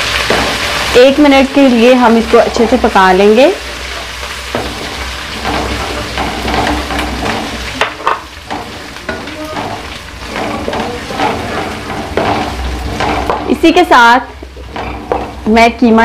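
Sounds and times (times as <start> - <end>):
hot oil sizzling: 0.0 - 16.0
wooden spatula scraping a pan: 0.0 - 16.0.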